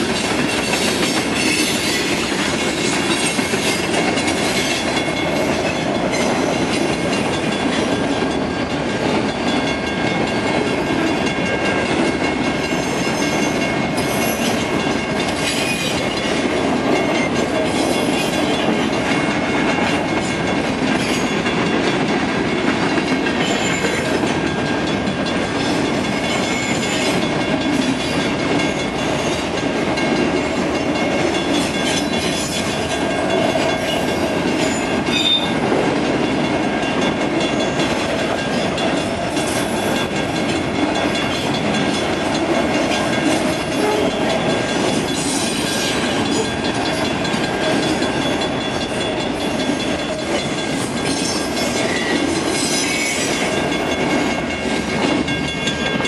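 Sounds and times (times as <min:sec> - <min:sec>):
train clatter: 0:00.0 - 0:56.0
train wheels rumbling on rails: 0:00.0 - 0:56.0.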